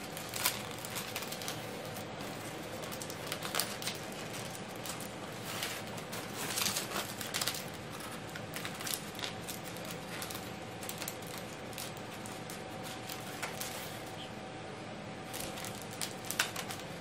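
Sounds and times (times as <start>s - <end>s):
foil balloons crinkling: 0.0s - 14.3s, 15.2s - 17.0s
faint steady hum: 0.0s - 17.0s.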